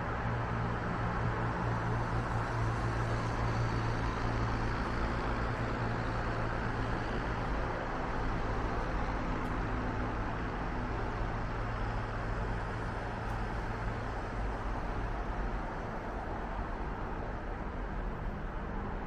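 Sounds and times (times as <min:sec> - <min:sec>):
low traffic hum: 0:00.0 - 0:19.0.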